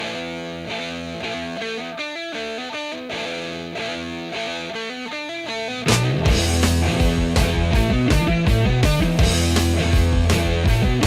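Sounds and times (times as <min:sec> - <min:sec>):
distorted electric guitar melody: 0:00.0 - 0:11.0.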